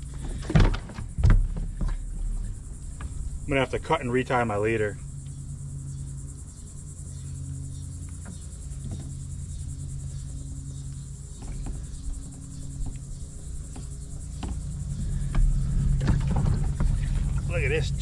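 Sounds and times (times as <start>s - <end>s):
low steady hum: 0.0s - 18.0s
high-pitched insect chirring: 1.1s - 18.0s.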